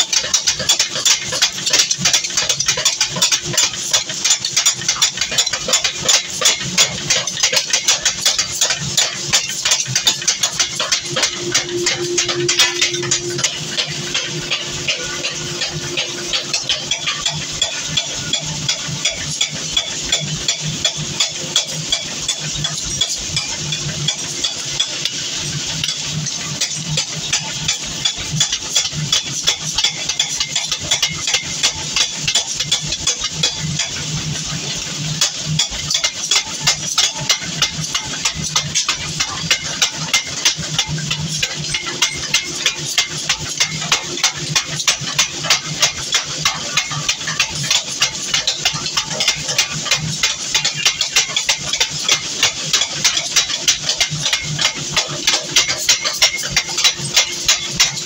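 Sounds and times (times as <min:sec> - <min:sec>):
power hammer striking hot steel: 0:00.0 - 0:58.0.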